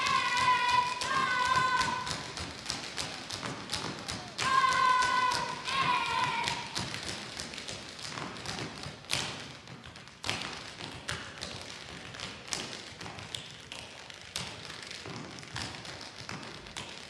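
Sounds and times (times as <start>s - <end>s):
tap shoes clicking on stage floor: 0.0s - 17.0s.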